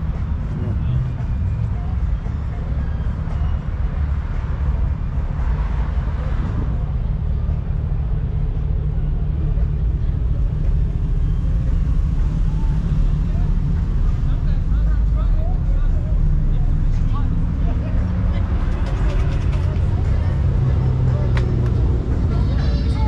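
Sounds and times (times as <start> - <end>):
car and truck engines rumbling: 0.0 - 23.0.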